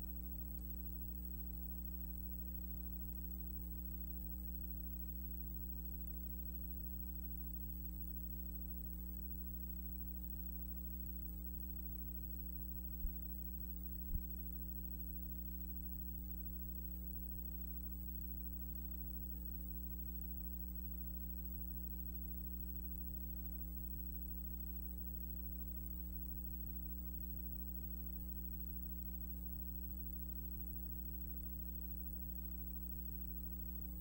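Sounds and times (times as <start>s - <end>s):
electrical hum with high whine: 0.0s - 34.0s.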